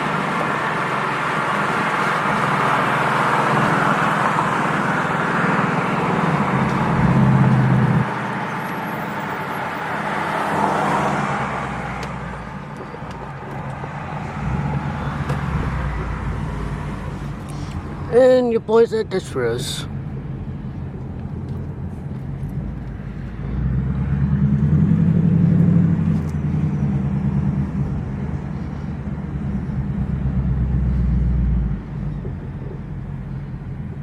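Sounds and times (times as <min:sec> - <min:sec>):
car engine pulling: 0:00.0 - 0:34.0
road noise: 0:00.0 - 0:34.0.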